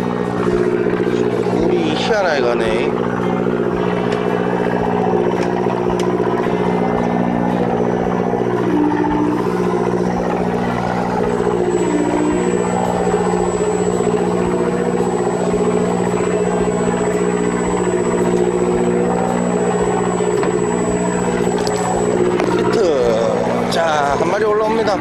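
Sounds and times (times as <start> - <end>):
boat engine humming: 0.0 - 25.0
faint high whine: 0.9 - 25.0.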